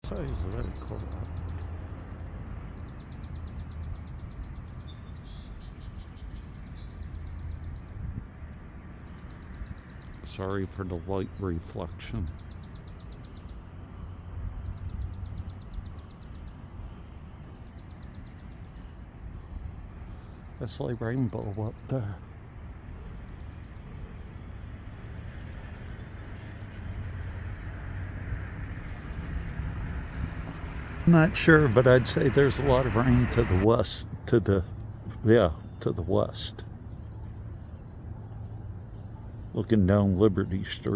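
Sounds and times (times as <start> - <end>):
bird chirps: 0.0 - 1.8, 2.7 - 8.2, 9.0 - 40.9
songbird trilling: 0.0 - 1.8, 2.7 - 8.1, 9.0 - 40.9
steady low rumble: 0.0 - 40.9.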